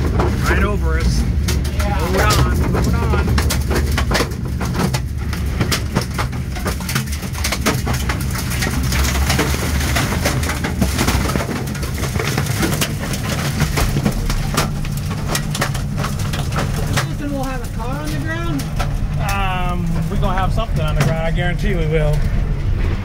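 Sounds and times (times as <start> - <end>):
debris striking windows: 0.0 - 23.0
wind roaring: 0.0 - 23.0.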